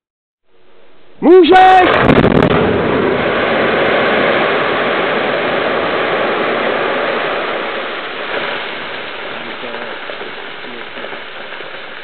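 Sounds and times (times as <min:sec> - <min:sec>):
rubble falling rumble: 0:01.8 - 0:12.0.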